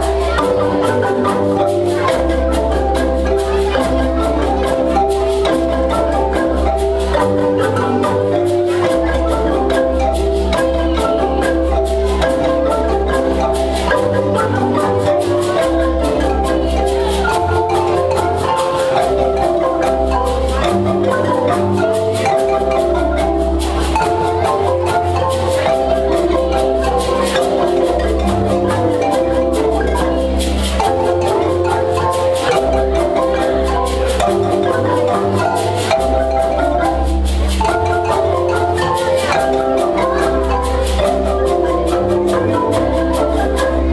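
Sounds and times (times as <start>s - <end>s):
low bass marimba notes: 0.0s - 43.9s
marimba ensemble playing: 0.0s - 43.9s.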